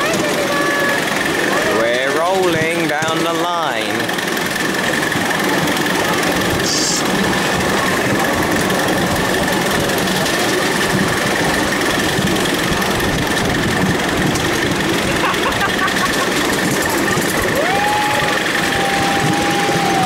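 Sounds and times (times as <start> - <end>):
high whine: 0.0 - 20.0
miniature steam train rattling: 0.0 - 20.0.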